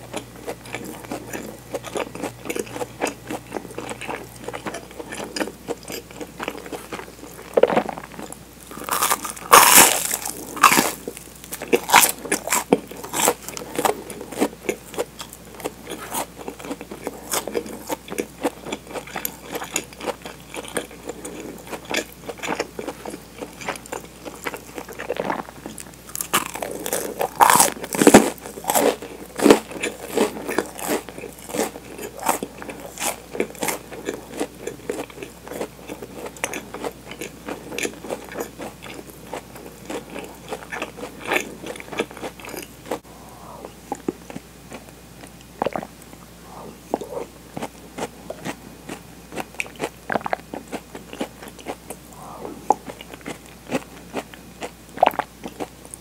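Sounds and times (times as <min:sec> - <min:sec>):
chewing crunchy toasted bread: 0:00.0 - 0:56.0.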